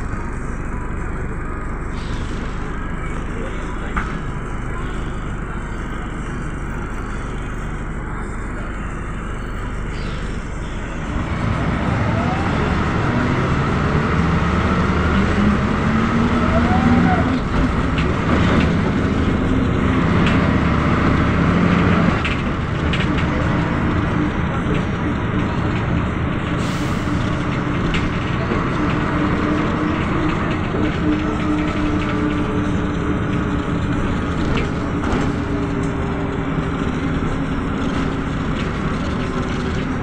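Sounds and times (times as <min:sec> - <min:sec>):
bus engine running: 0:00.0 - 0:40.0
road and tyre noise: 0:00.0 - 0:40.0.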